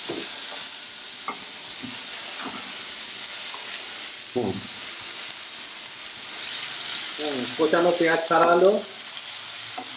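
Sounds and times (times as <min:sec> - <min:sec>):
hot oil sizzling: 0:00.0 - 0:09.9.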